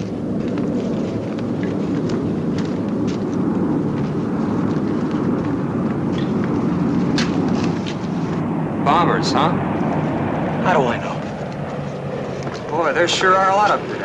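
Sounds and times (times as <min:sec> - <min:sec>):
propeller aircraft drone: 0:00.0 - 0:14.0.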